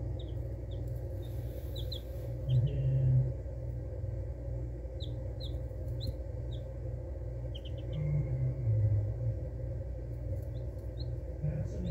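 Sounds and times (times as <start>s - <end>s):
baby chicks peeping: 0.0s - 11.9s
steady low hum: 0.0s - 11.9s.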